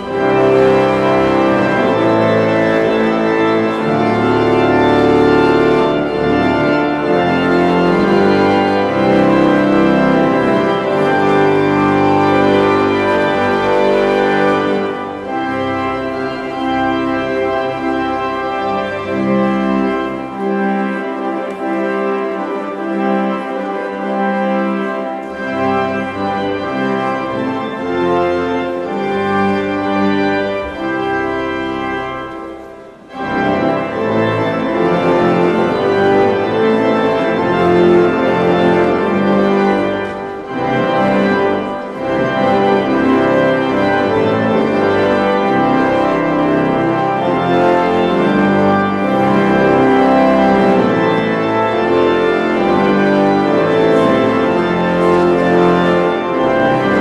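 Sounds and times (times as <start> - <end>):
pipe organ playing chords: 0.0 - 57.0.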